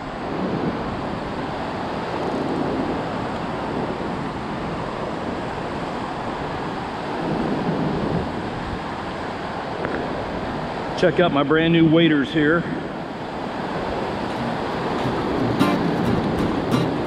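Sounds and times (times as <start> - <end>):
wind on microphone: 0.0 - 11.0, 11.8 - 17.0
ocean surf washing onto beach: 0.0 - 17.0.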